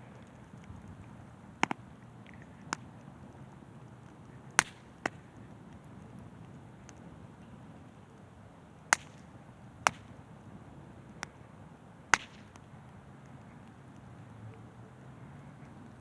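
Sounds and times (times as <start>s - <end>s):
campfire popping: 0.0s - 16.0s
faint fire crackle: 0.0s - 16.0s.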